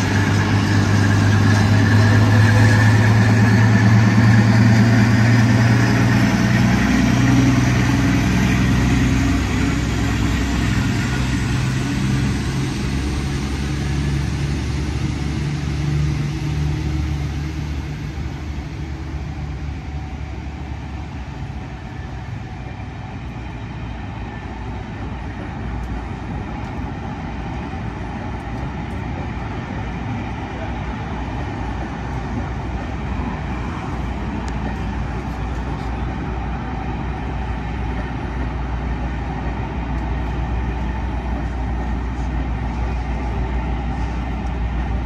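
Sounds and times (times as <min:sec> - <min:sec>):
diesel locomotive engine pulling away: 0:00.0 - 0:45.0.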